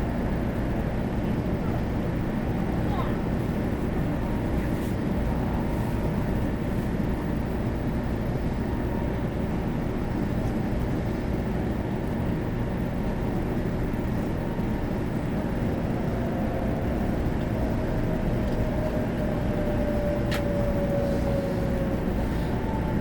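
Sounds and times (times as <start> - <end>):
train cabin rumble and hiss: 0.0 - 23.0.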